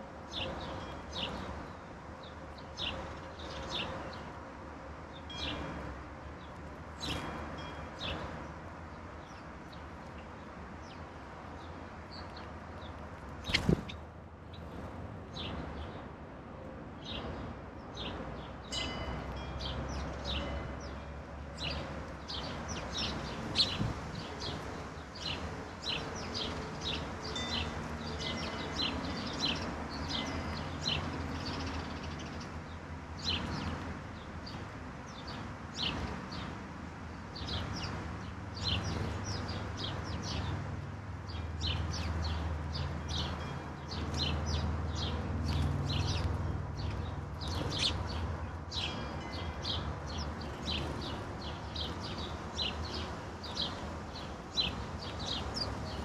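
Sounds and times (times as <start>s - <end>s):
songbirds chirping: 0.1s - 56.0s.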